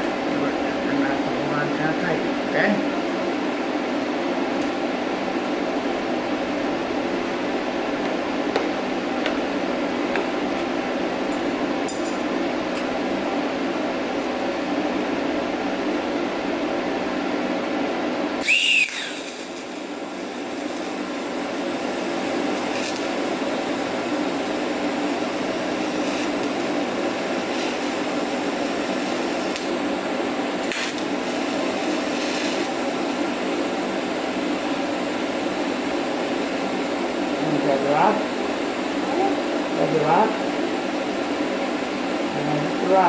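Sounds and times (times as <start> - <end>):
fan-like noise with low hum: 0.0 - 43.0.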